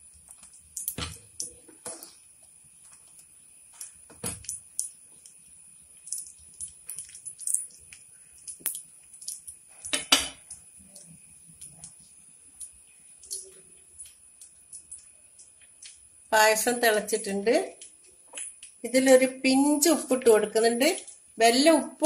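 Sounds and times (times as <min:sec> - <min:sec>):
coconut crackling in hot fat: 0:00.0 - 0:19.0.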